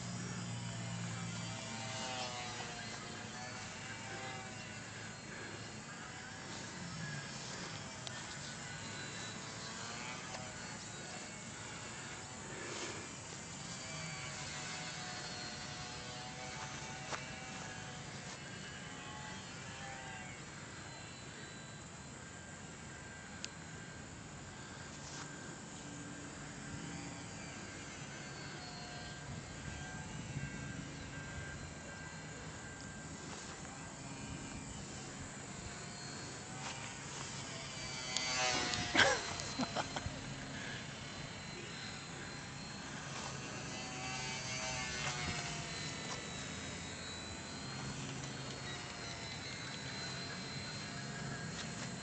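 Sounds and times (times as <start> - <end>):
faint whine: 0.0 - 52.0
model plane electric motor buzz: 0.0 - 52.0
steady outdoor hiss: 0.0 - 52.0.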